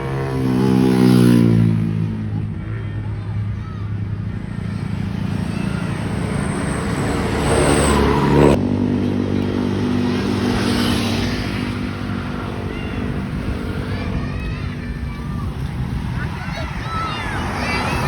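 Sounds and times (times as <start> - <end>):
steady engine drone: 0.0 - 18.0
bus engine running: 1.7 - 10.6, 11.2 - 18.0.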